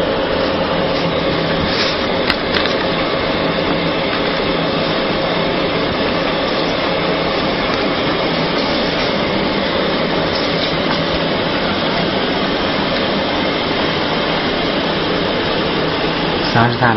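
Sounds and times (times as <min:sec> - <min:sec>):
machine humming: 0:00.0 - 0:16.9.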